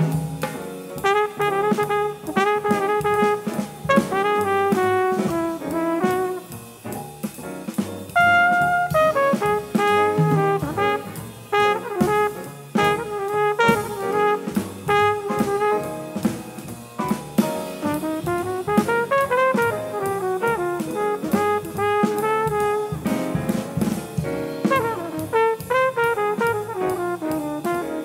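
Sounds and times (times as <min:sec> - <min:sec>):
drum kit strikes: 0:00.0 - 0:28.0
jazz trumpet playing: 0:00.0 - 0:28.0
swing rhythm section: 0:00.0 - 0:28.0.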